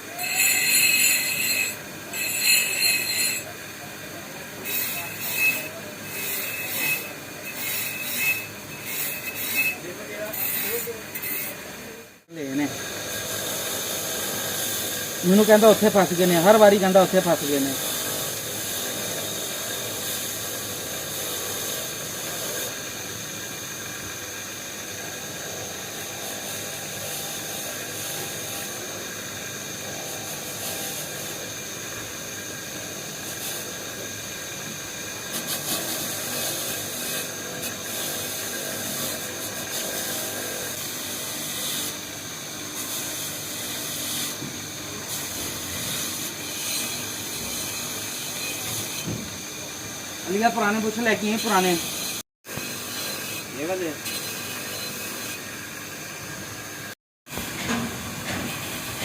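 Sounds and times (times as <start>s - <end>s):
power tool running: 0.0s - 59.0s.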